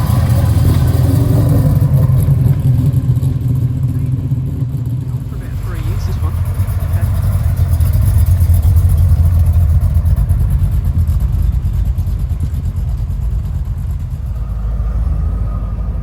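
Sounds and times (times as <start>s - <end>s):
car engine pulsing rumble: 0.0s - 16.0s.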